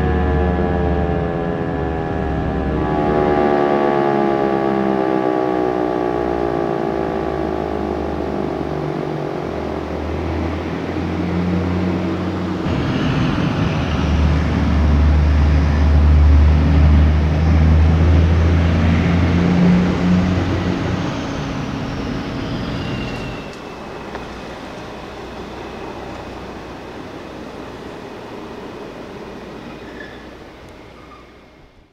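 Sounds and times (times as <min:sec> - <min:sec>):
electronic siren winding down: 0:00.0 - 0:12.8, 0:14.9 - 0:28.3
heavy vehicle engine rumble: 0:00.0 - 0:31.9.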